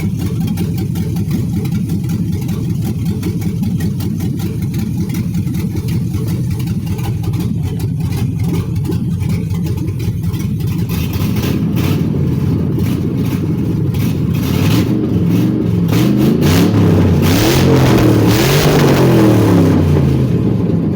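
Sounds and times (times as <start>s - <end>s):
engine idling and revving: 0.0s - 20.9s.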